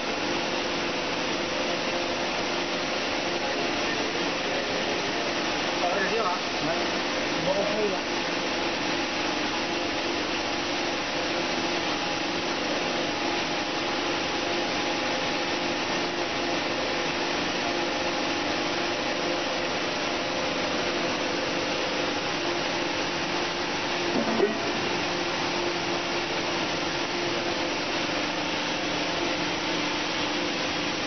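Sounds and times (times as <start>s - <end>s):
production line machinery whirring: 0.0s - 31.0s.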